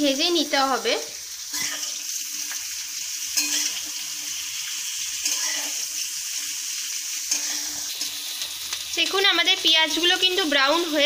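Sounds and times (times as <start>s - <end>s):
onions sizzling in oil: 0.0s - 11.0s
small pops of frying oil: 1.5s - 11.0s.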